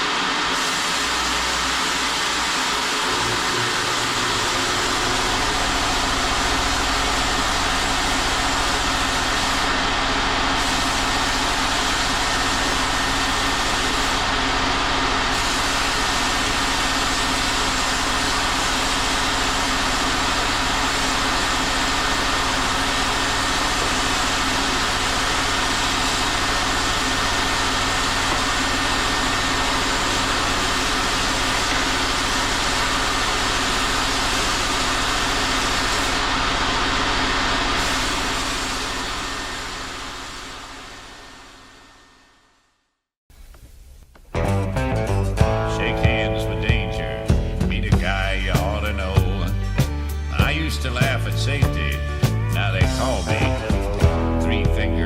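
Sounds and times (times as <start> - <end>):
machine running steadily: 0.0 - 42.7, 44.5 - 55.0.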